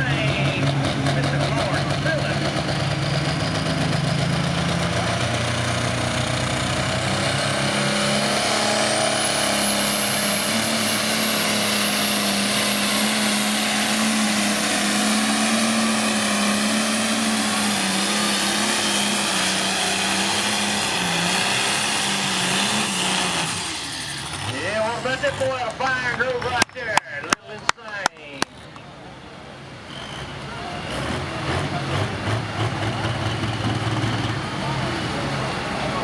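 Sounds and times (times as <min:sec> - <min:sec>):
diesel engine at full throttle: 0:00.0 - 0:36.0.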